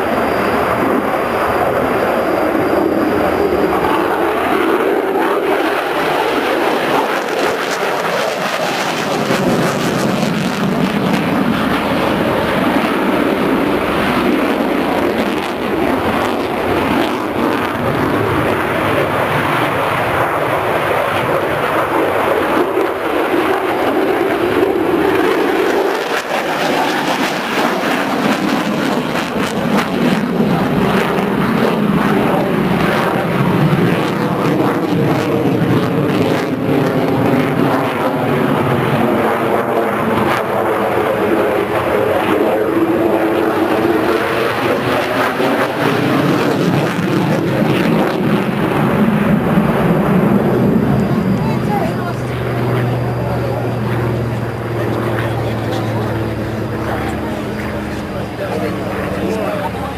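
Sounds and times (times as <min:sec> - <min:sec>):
military aircraft engines: 0:00.0 - 0:59.9.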